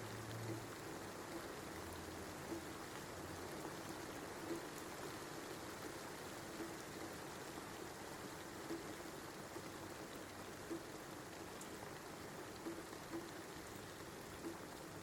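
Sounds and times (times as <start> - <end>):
steady rain patter: 0.0 - 15.0.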